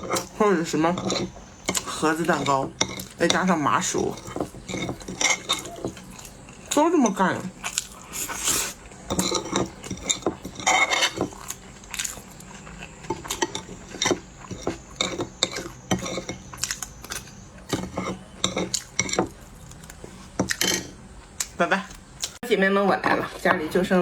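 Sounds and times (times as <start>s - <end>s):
utensils clicking against a dish: 0.0s - 22.4s.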